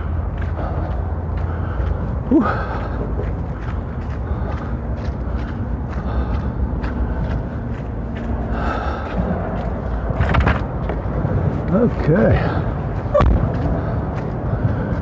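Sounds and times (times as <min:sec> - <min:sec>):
man breathing hard: 0:00.0 - 0:10.2, 0:11.7 - 0:15.0
wind rumble on microphone: 0:00.0 - 0:15.0.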